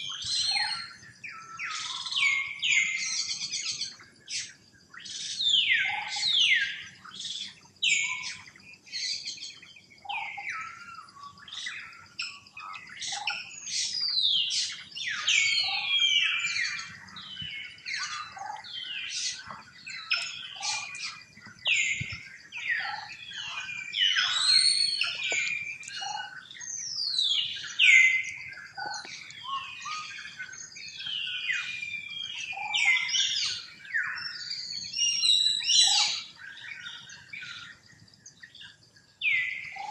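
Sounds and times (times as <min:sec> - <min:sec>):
bird chorus: 0:00.0 - 0:39.9.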